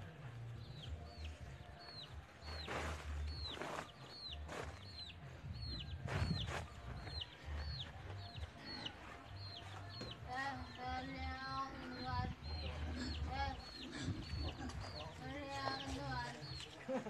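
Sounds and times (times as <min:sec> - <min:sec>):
chicks peeping: 0:00.5 - 0:17.0.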